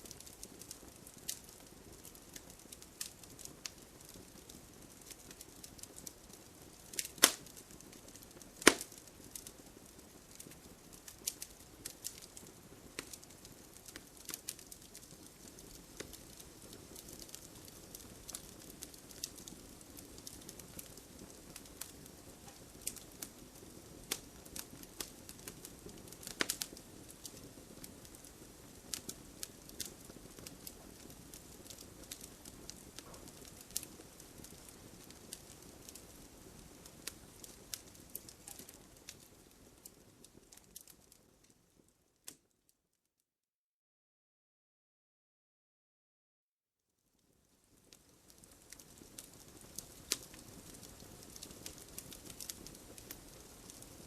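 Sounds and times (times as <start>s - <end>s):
wood fire crackling: 0.0s - 42.5s, 47.2s - 54.0s.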